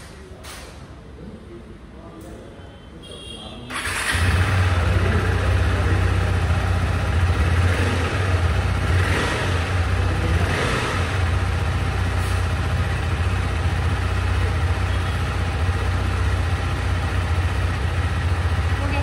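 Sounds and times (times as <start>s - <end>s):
motorcycle engine rumbling: 3.7s - 19.0s.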